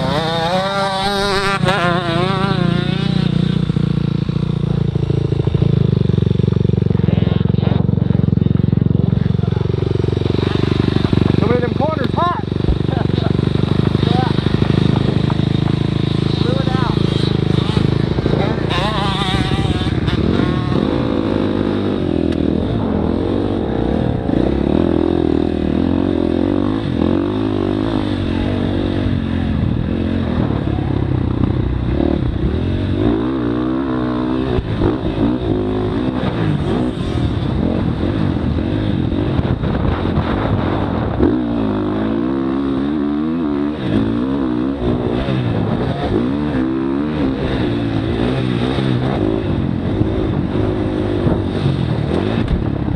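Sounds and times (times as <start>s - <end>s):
motorbike engine revving: 0.0s - 52.9s.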